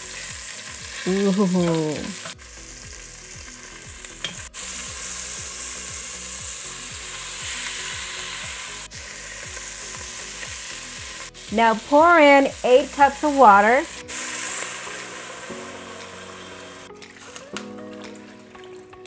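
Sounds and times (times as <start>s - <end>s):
chicken sizzling in hot oil: 0.0s - 18.9s.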